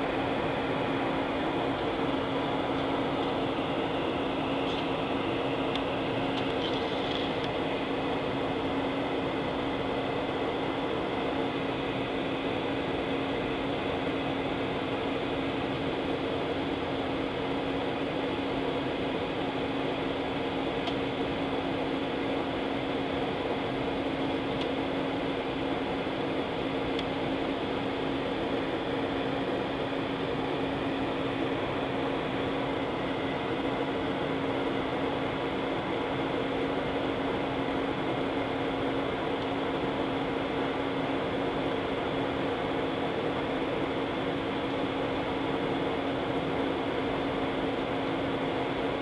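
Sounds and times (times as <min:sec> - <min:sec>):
airliner cabin hum: 0:00.0 - 0:49.0
jet engine and ventilation noise: 0:00.0 - 0:49.0.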